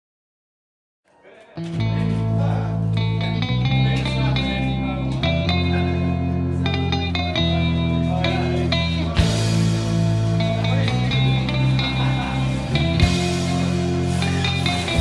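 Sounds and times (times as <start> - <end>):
guitar background music: 1.6 - 15.0.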